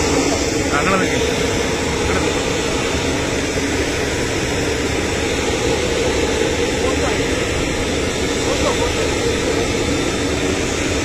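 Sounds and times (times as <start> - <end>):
jet engine rumble and hiss: 0.0 - 11.0.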